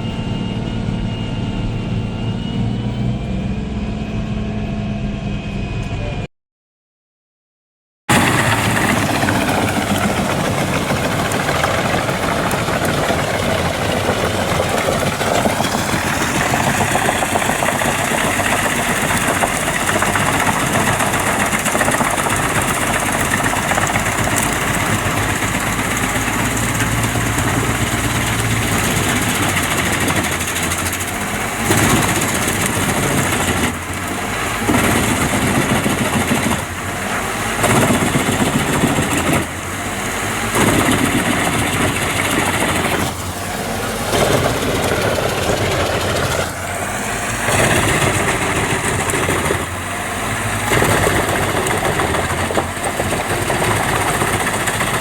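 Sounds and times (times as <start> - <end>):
machine engine running hard: 0.0 - 6.3, 8.1 - 55.0.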